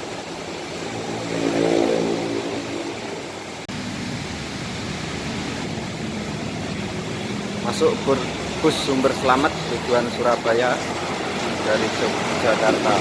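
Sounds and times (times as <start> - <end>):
bus diesel engine passing: 0.3 - 13.0.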